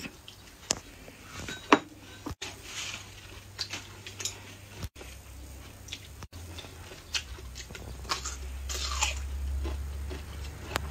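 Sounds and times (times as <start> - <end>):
low steady hum: 0.0 - 10.9.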